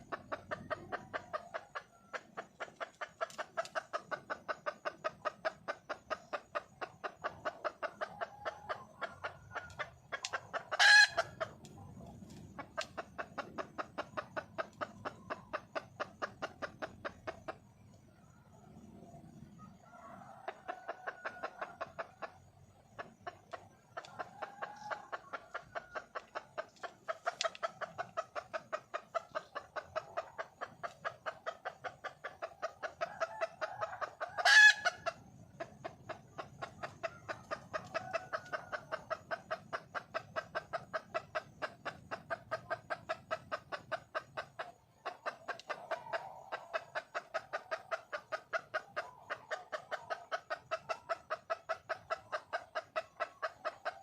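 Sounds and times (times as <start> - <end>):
hen clucking rapidly: 0.0 - 54.0.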